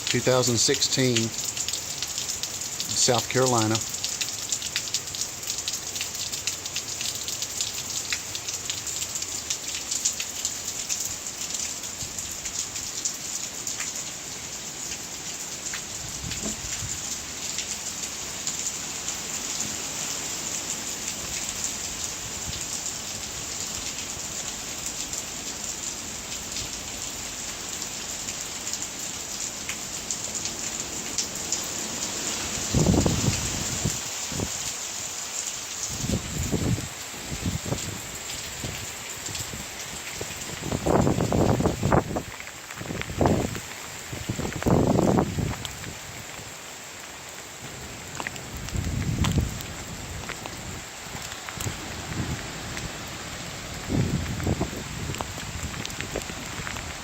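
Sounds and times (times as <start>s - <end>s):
heavy rain falling: 0.0s - 57.0s
raindrops ticking on surfaces: 0.0s - 57.0s.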